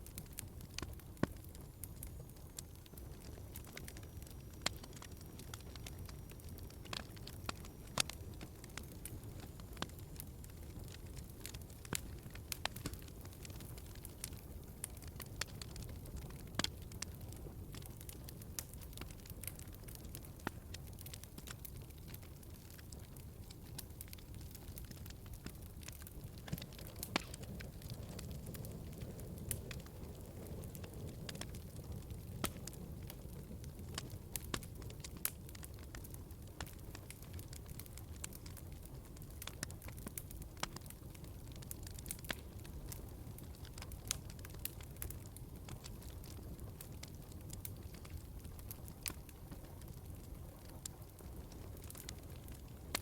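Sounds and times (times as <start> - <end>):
low rumble of flames: 0.0 - 53.0
wood fire snapping and popping: 0.0 - 53.0.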